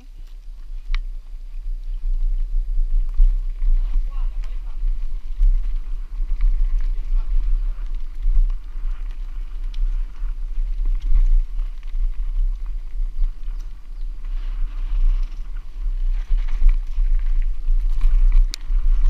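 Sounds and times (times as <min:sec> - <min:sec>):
bike rattles and clicks: 0:00.0 - 0:19.0
wind and vibration rumble on microphone: 0:00.0 - 0:19.0.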